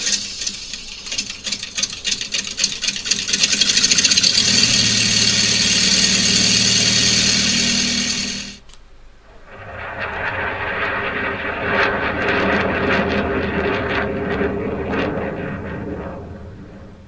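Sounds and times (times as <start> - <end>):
engine running: 0.0 - 8.6, 9.3 - 17.0.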